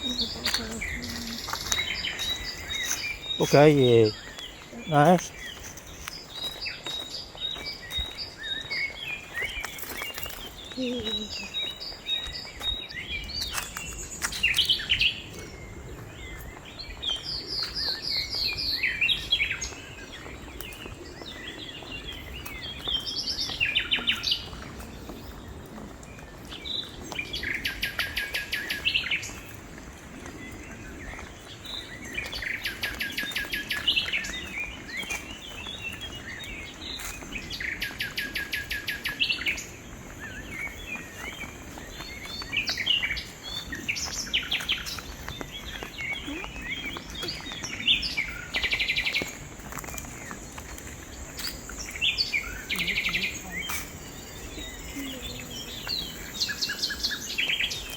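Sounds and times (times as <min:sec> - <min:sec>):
birds singing fast trills: 0:00.0 - 0:57.9.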